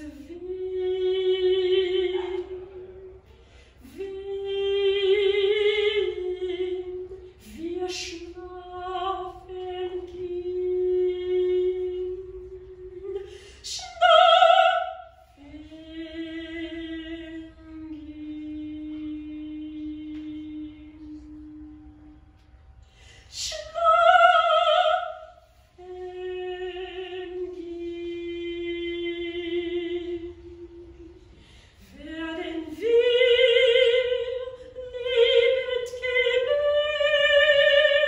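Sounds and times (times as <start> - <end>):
soprano singing unaccompanied: 0.0 - 22.5, 23.3 - 38.0.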